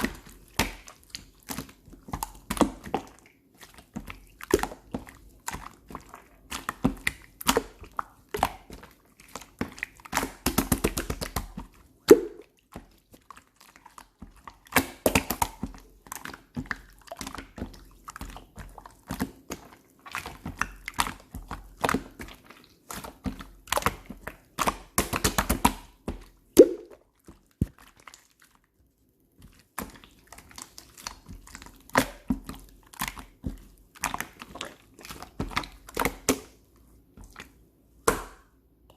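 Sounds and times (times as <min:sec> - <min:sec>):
slime squishing: 0:00.0 - 0:38.9.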